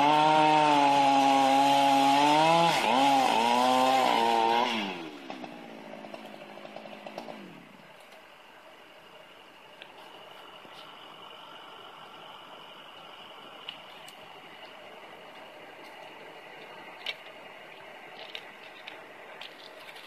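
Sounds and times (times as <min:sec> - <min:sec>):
chainsaw cutting log: 0:00.0 - 0:08.2, 0:10.1 - 0:20.0.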